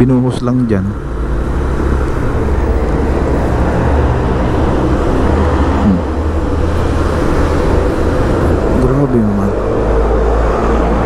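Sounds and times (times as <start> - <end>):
road traffic drone: 0.0 - 11.0.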